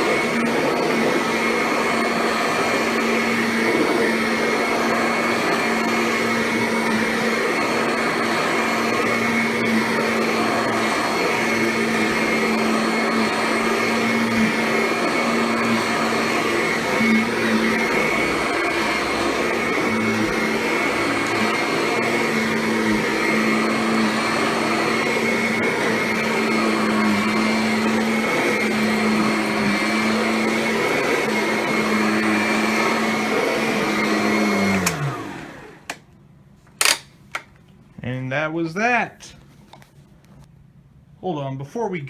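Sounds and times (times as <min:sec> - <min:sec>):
vacuum cleaner running on carpet: 0:00.0 - 0:36.0
vacuum motor winding down: 0:00.0 - 0:36.0.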